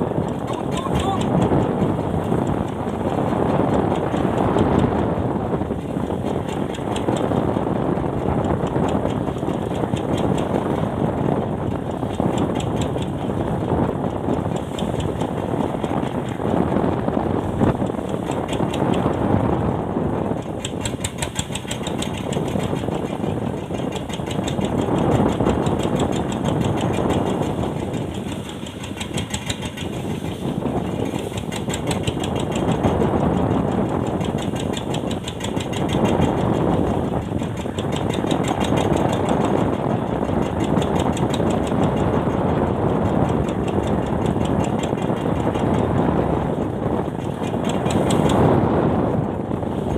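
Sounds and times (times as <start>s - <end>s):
boat engine pulsing: 0.0s - 49.9s.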